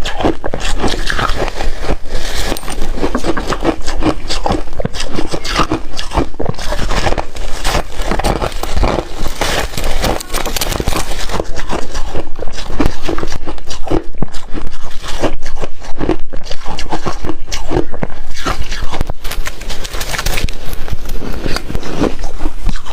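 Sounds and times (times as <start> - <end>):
ice being chewed: 0.0 - 22.9.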